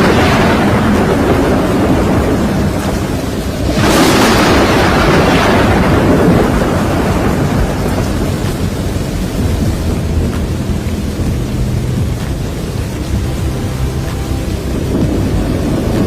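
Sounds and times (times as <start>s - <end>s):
heavy rain: 0.0s - 16.0s
wind: 0.0s - 16.0s.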